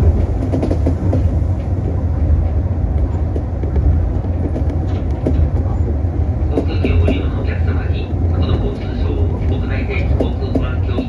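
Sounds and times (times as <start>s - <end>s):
monorail train humming: 0.0s - 11.0s.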